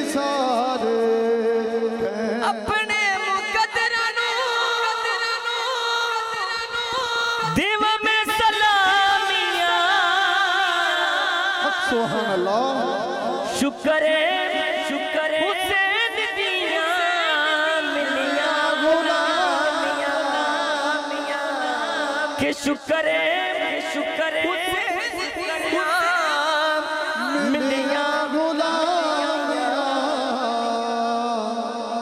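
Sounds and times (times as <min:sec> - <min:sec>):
man singing into microphone: 0:00.0 - 0:32.0.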